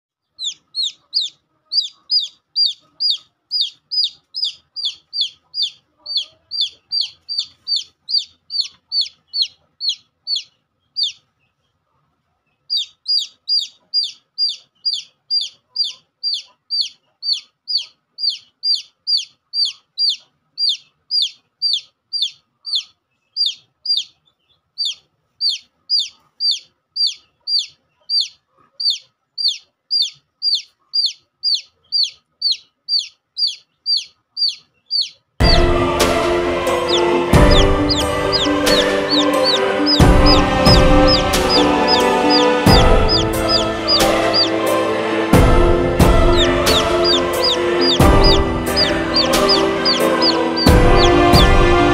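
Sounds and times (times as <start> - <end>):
chick peeping: 0.2 - 51.9.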